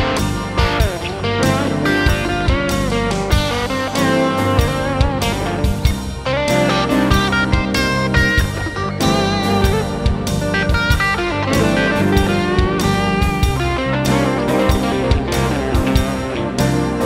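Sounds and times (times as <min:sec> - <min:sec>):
bass guitar: 0:00.0 - 0:17.0
drum kit steady beat: 0:00.0 - 0:17.0
electric guitars: 0:00.0 - 0:17.0.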